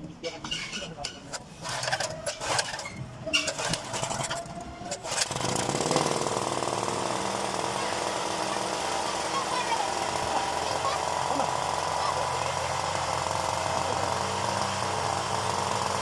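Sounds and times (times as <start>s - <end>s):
small generator engine running: 1.5s - 16.0s.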